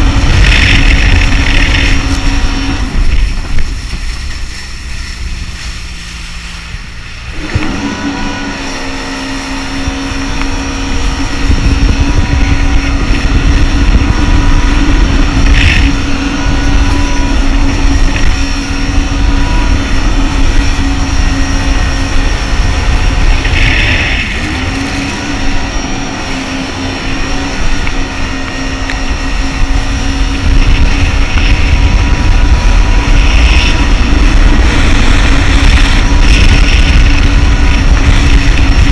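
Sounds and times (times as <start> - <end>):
jet ski engine running: 0.0 - 38.9
wind and water rushing on microphone: 0.0 - 38.9.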